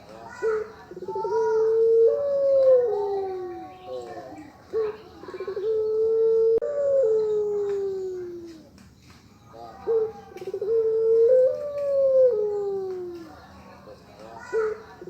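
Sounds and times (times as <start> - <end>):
dove cooing: 0.3 - 8.8, 9.5 - 13.4, 14.4 - 15.0.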